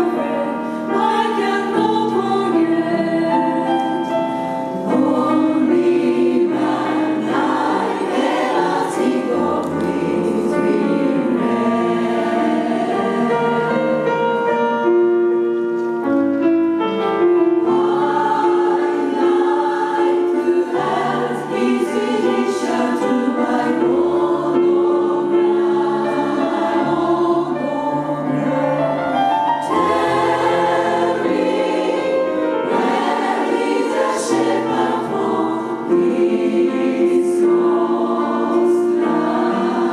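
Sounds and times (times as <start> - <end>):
jazz chorus singing in harmony: 0.0 - 16.0, 17.0 - 39.9.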